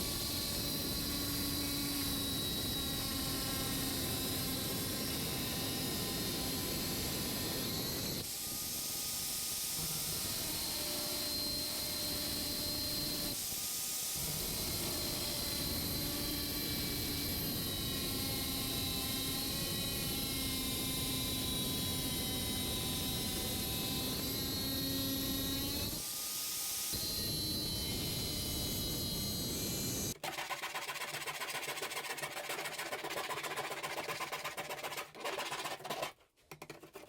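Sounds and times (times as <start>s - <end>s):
power tool whining on steel: 0.0s - 30.2s.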